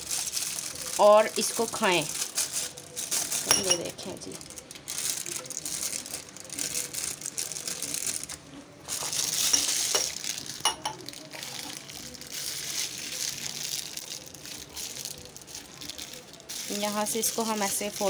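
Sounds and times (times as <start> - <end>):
plastic piping bag crinkling: 0.0 - 18.0.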